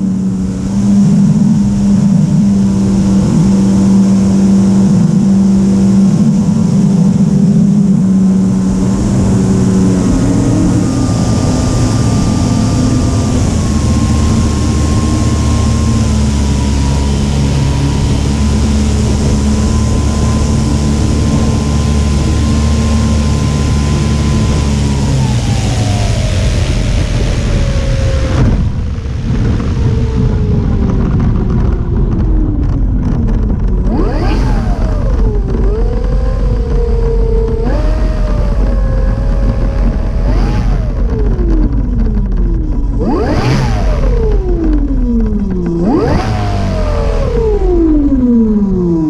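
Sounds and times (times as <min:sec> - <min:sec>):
high whine sliding down: 0:00.0 - 0:49.0
model airplane motor: 0:00.3 - 0:49.0.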